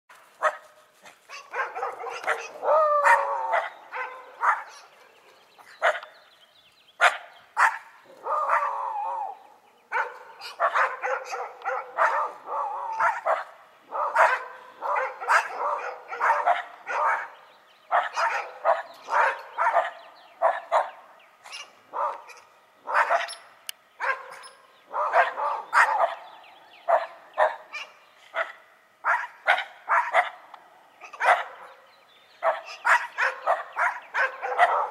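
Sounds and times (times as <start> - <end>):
dogs barking: 0.3 - 6.2, 7.0 - 23.4, 24.0 - 34.9.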